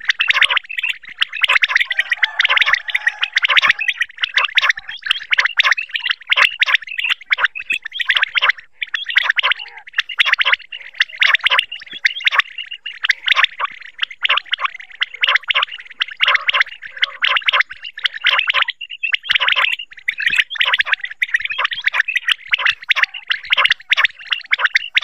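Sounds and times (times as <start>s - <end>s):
quail calling: 0.0s - 25.0s.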